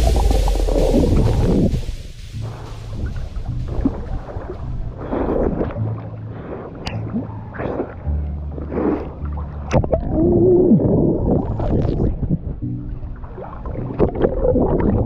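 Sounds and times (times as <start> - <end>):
underwater gurgling: 0.0 - 15.0
water splashing and sloshing: 0.0 - 15.0.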